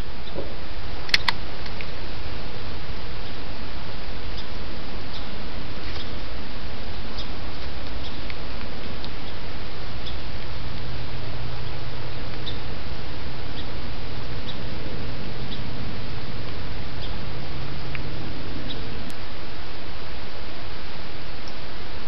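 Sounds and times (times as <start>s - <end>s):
low hum: 0.0s - 22.0s
microphone hiss: 0.0s - 22.0s.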